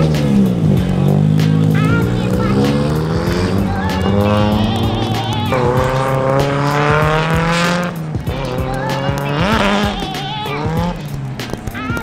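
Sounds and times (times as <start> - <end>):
background music: 0.0 - 12.0
car engine revving hard: 0.0 - 12.0.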